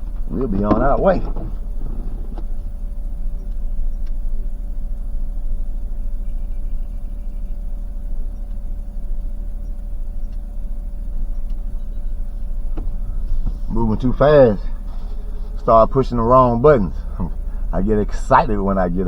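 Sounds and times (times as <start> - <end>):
car engine and road rumble: 0.0 - 19.0
faint steady hum: 0.0 - 19.0.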